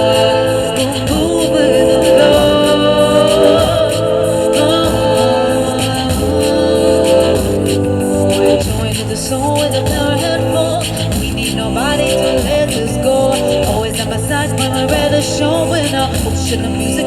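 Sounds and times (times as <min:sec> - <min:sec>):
live band playing: 0:00.0 - 0:16.4
person singing long notes: 0:00.0 - 0:17.0.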